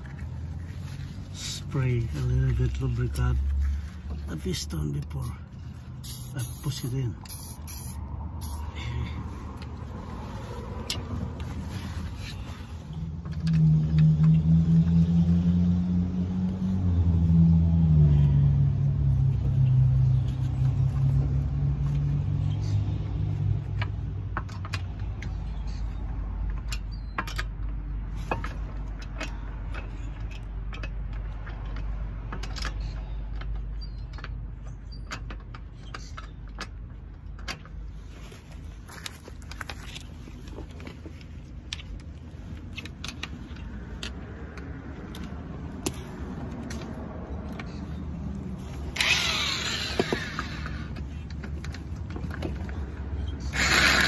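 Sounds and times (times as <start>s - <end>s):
lug nuts threaded by hand: 0.0s - 15.5s, 18.1s - 54.0s.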